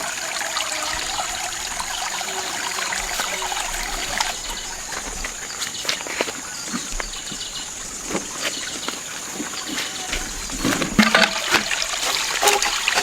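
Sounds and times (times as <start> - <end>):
water trickling in muddy shallows: 0.0 - 13.0.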